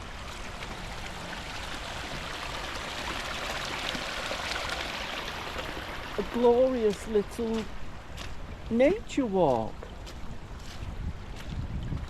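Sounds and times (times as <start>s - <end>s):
stream water rushing: 0.0s - 10.8s.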